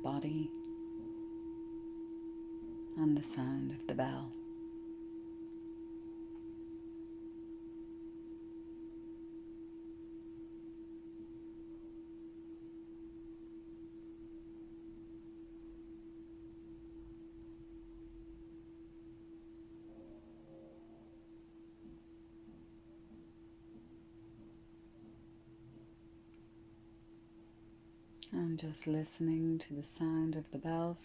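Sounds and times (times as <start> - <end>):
meditation bell ringing: 0.0 - 24.8.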